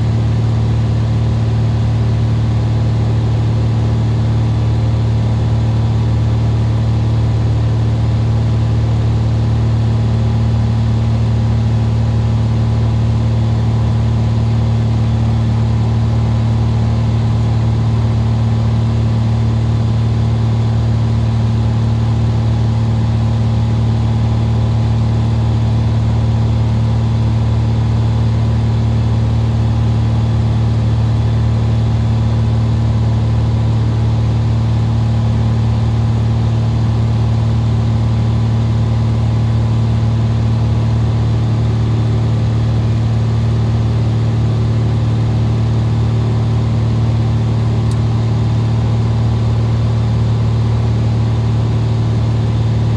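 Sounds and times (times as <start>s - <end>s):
propeller plane engine drone: 0.0s - 52.9s.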